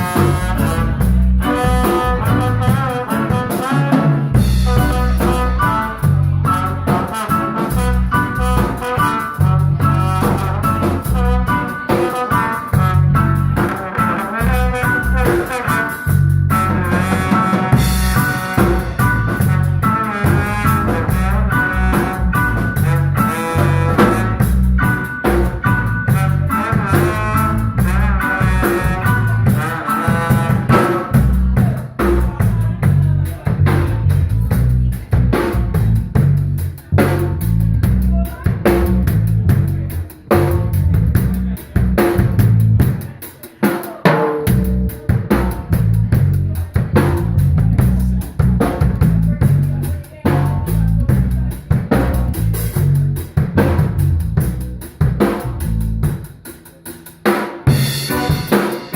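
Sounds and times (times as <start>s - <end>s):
instrumental melody lines: 0.0s - 42.6s, 44.2s - 58.9s
drum kit: 0.0s - 58.9s.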